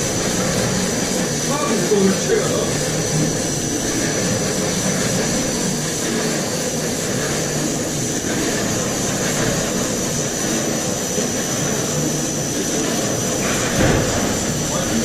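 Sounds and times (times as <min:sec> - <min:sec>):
machine hum and rush: 0:00.0 - 0:15.0.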